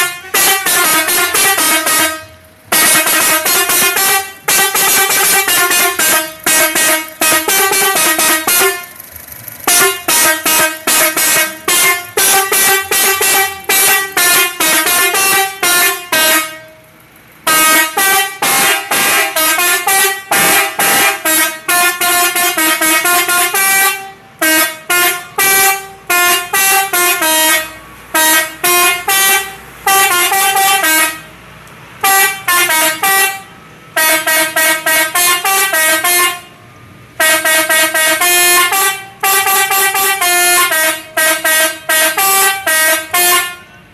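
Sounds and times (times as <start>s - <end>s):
multi-tone air horn melody: 0.0s - 9.0s, 9.6s - 36.6s, 37.2s - 43.9s.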